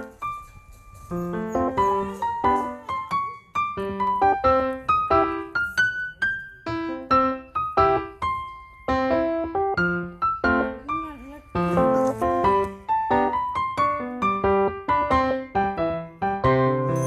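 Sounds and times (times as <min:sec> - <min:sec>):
light piano melody: 0:00.0 - 0:17.0.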